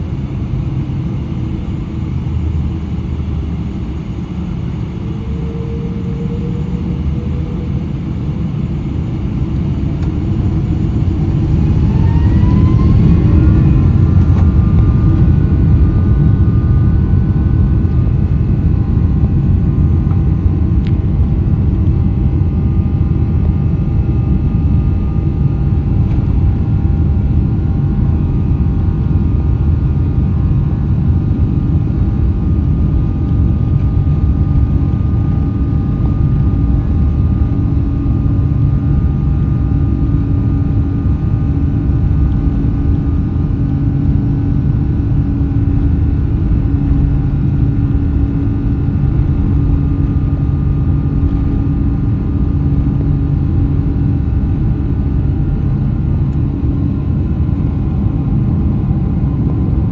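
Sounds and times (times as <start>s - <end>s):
jet engines spooling up in cabin: 0.0s - 59.9s.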